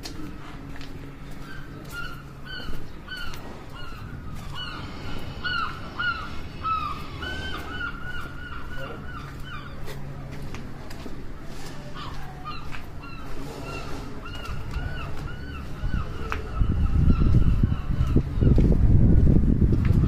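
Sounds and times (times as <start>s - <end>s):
birds calling: 0.0s - 18.8s
low hum: 0.0s - 20.0s.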